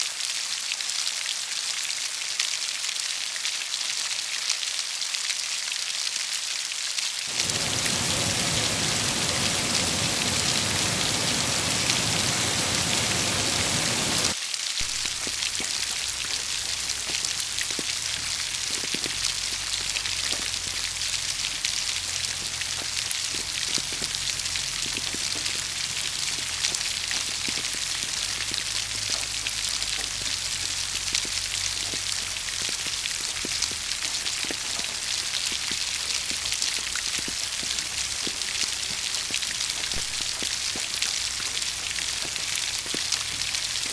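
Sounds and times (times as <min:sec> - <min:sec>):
rain falling: 0:00.0 - 0:43.9
raindrops pattering: 0:07.1 - 0:43.9.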